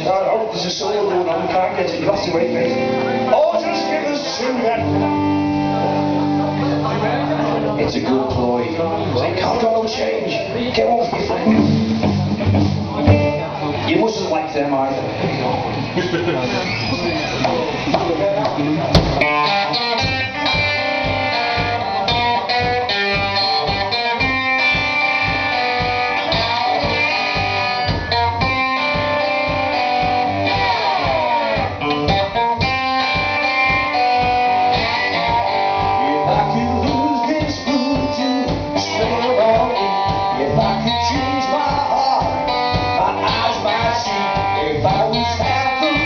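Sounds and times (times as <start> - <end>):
live rock band playing: 0.0 - 46.0.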